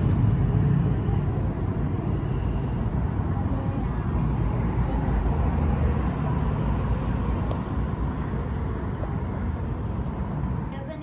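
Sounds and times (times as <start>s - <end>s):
low rumble of passing vehicles: 0.0s - 11.0s.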